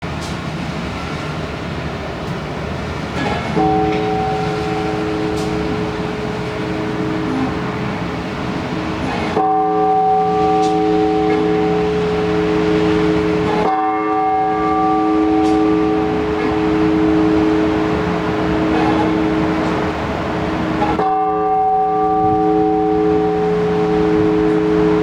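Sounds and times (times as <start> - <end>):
large church bell tolling: 3.2 - 25.0.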